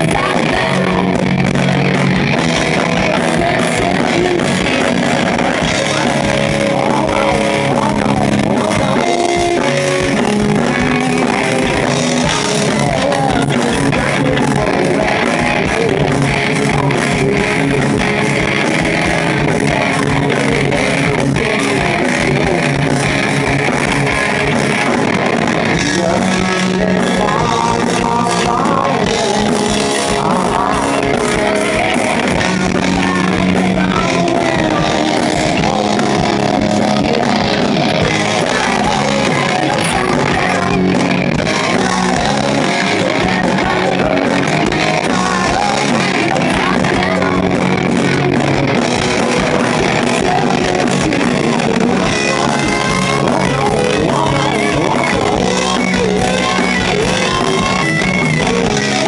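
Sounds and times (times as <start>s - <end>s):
man singing: 0.0s - 1.7s, 2.3s - 25.0s, 25.6s - 59.0s
hard rock band playing: 0.0s - 59.0s.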